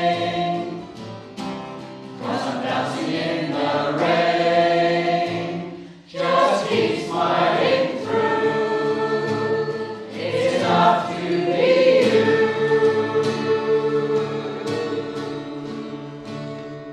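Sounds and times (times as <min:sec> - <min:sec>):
choir singing held notes: 0:00.0 - 0:01.0, 0:02.2 - 0:16.5.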